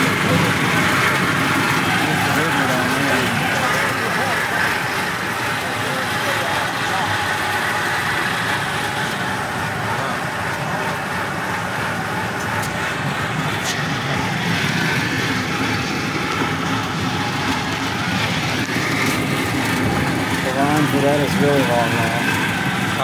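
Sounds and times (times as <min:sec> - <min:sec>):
small train engine and wheels: 0:00.0 - 0:23.0.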